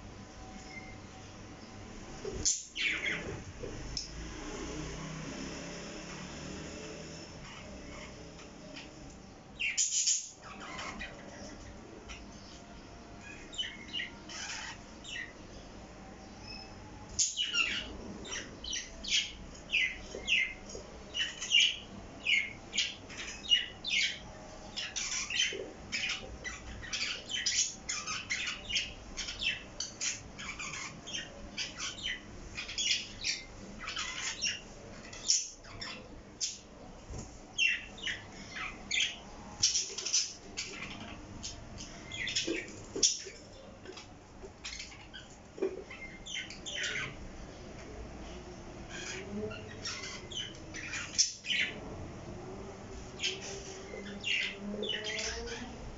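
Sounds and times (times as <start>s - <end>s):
parrots chirping and squawking: 2.3s - 3.5s, 7.1s - 15.7s, 16.4s - 36.8s, 37.6s - 47.3s, 48.8s - 52.3s, 53.1s - 55.9s.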